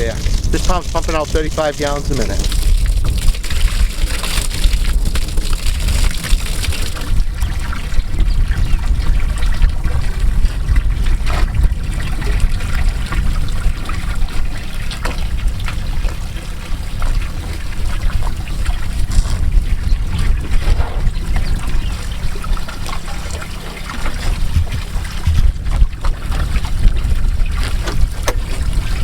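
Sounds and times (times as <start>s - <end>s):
low rumble: 0.0s - 29.0s
water pouring into a tank: 0.0s - 29.0s.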